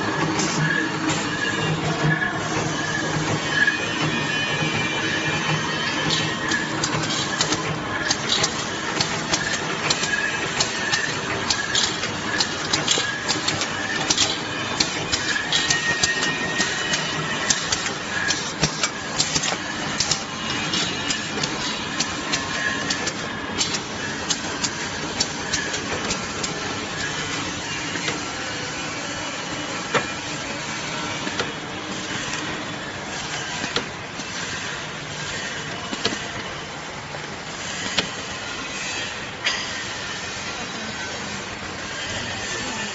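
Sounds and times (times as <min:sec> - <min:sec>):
packaging machinery running: 0:00.0 - 0:42.9
sharp mechanical clicks and clatter: 0:00.1 - 0:39.6.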